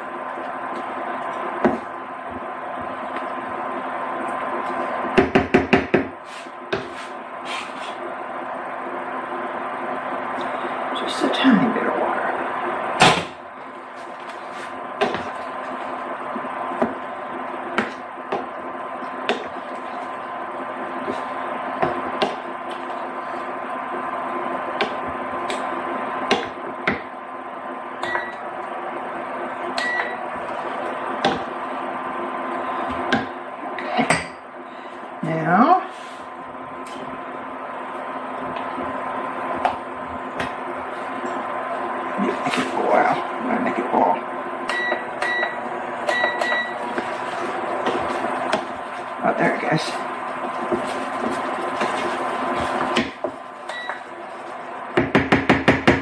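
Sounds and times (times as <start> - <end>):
electric hum of cooktop: 0.0 - 56.0.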